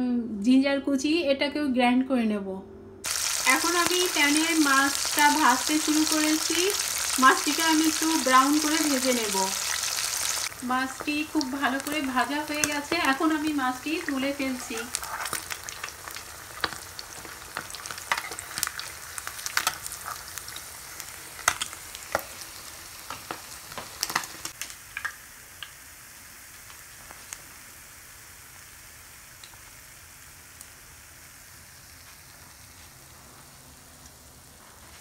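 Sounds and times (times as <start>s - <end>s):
fish frying in hot oil: 3.0s - 34.6s.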